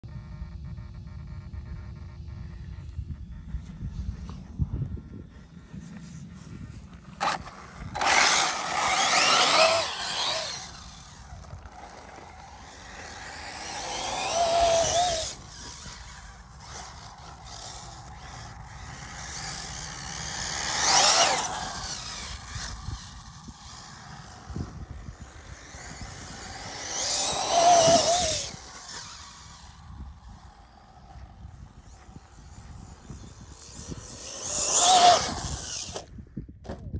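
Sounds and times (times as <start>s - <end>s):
electric motor whining: 6.3s - 36.1s.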